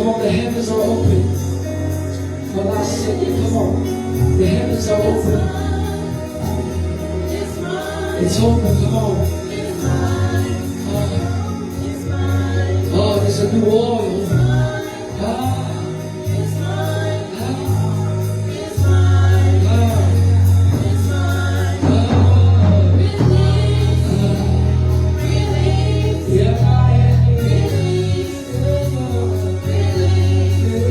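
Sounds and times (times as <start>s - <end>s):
band playing: 0.0s - 30.9s
deep sustained bass: 0.0s - 30.9s
voices singing gospel: 0.0s - 30.9s.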